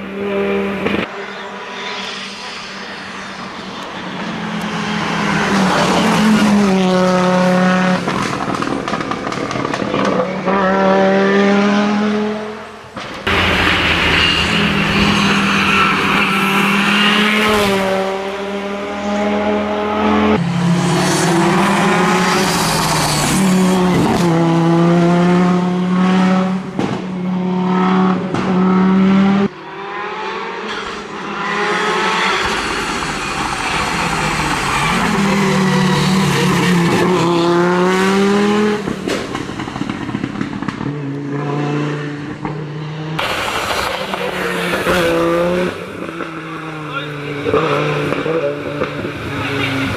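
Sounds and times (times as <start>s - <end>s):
rally car engine driven hard: 3.4s - 49.9s.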